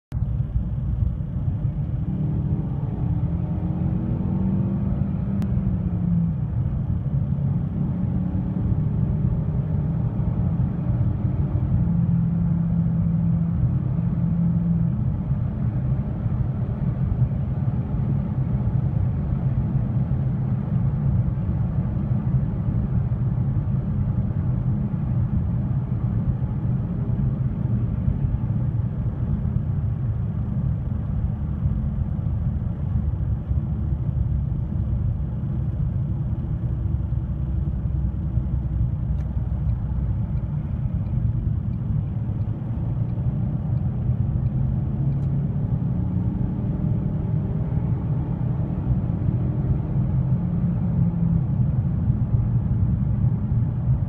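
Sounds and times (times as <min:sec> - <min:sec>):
car engine and road rumble: 0:00.1 - 0:54.0.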